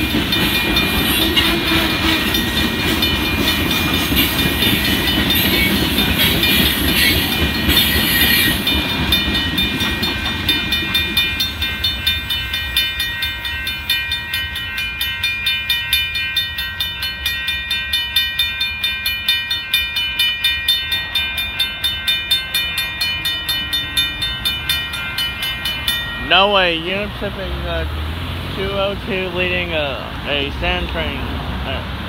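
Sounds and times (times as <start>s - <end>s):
crossing bells ringing: 0.0s - 32.0s
freight train rumbling past: 0.0s - 32.0s.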